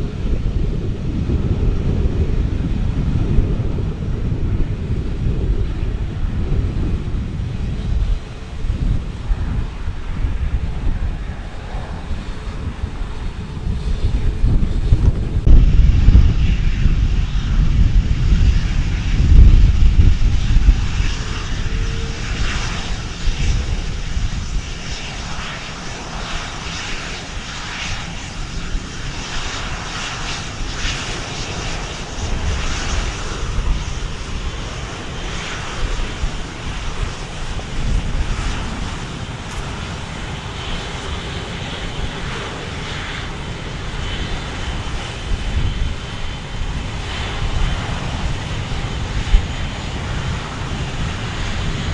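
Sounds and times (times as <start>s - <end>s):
heavy low buffeting: 0.0s - 49.0s
airplane engines roaring: 0.0s - 51.9s.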